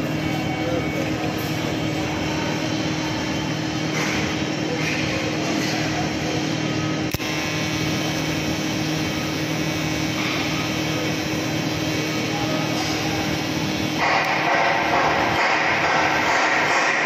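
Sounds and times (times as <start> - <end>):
welding arc hiss and hum: 0.0 - 17.0.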